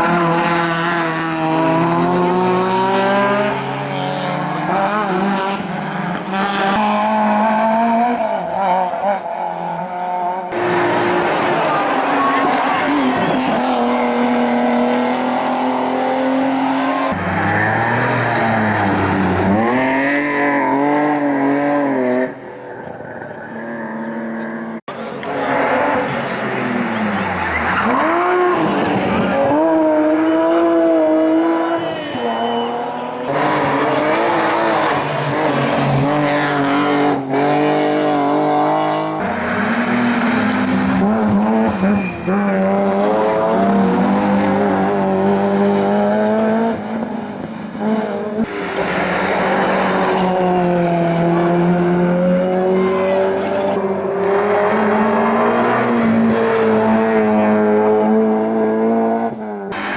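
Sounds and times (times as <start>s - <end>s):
racing car engines revving: 0.0s - 59.9s.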